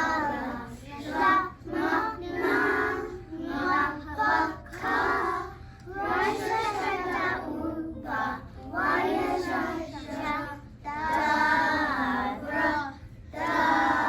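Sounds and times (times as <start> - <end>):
child singing: 0.0 - 14.0.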